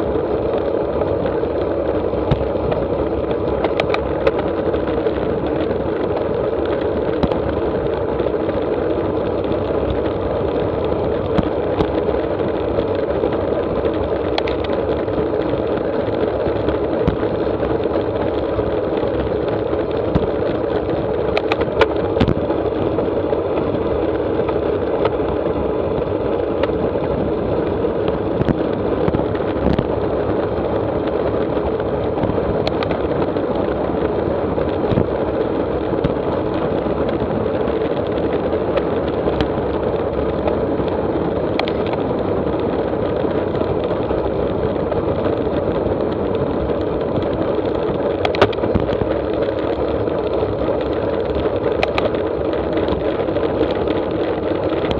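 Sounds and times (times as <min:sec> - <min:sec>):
road noise: 0:00.0 - 0:54.9
wind rush: 0:00.0 - 0:54.9.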